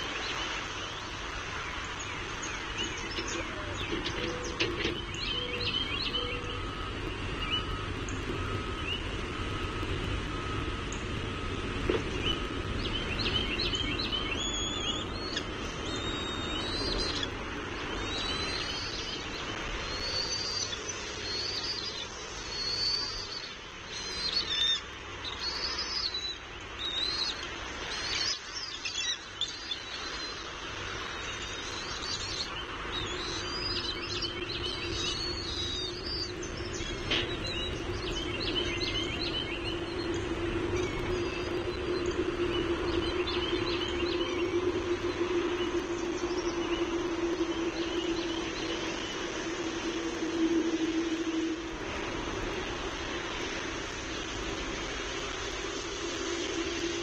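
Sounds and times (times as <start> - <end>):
low background rumble: 0.0 - 24.3, 30.4 - 57.0
low hum: 0.0 - 27.9, 29.2 - 57.0
birds chirping: 0.0 - 57.0.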